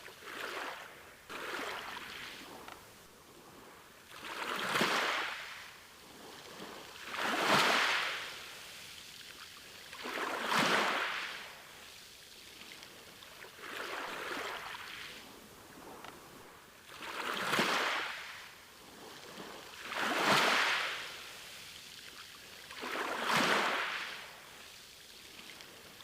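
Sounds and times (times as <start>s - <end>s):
small sea waves breaking: 0.0s - 26.0s.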